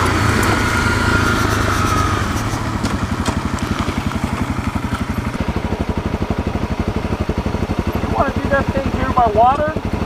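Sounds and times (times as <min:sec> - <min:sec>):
motorcycle engine decelerating: 0:00.0 - 0:10.0.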